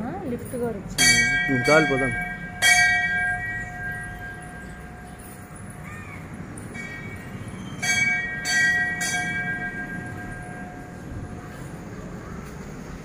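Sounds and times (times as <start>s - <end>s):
metal bell ringing: 0.0s - 11.9s.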